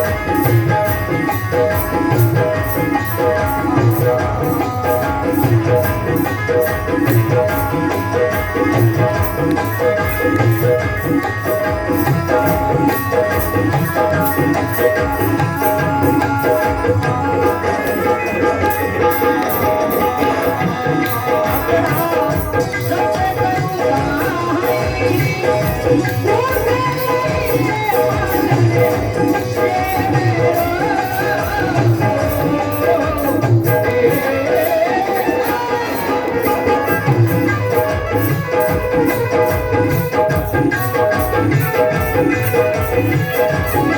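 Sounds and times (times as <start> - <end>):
hand drum beat: 0.0 - 43.9.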